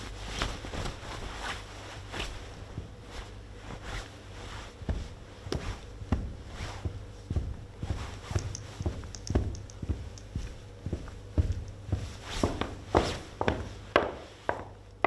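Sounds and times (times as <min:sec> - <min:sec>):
low hum: 0:00.0 - 0:13.8
footsteps of leather-soled shoes: 0:00.0 - 0:15.0.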